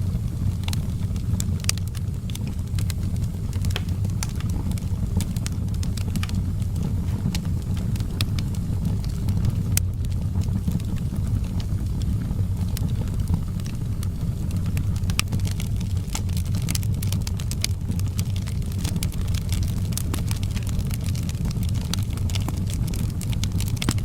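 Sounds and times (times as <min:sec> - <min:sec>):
low rumble of burning fire: 0:00.0 - 0:24.0
wood fire crackling and popping: 0:00.0 - 0:24.0.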